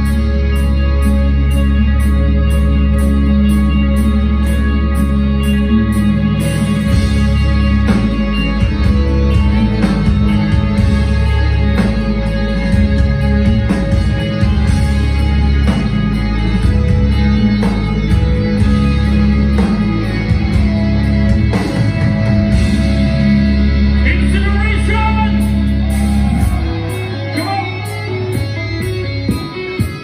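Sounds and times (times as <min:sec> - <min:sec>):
heavy low guitar chords: 0:00.0 - 0:30.0
higher guitar line: 0:00.0 - 0:30.0
live metal band: 0:00.0 - 0:30.0.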